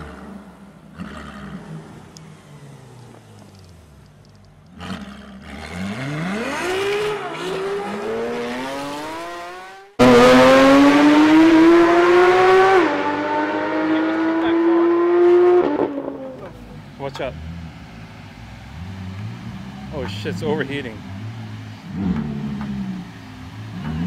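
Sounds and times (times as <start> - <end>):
engine at high revs: 0.0 - 2.9, 4.7 - 17.7, 18.3 - 24.0
car engine revving: 0.0 - 24.0.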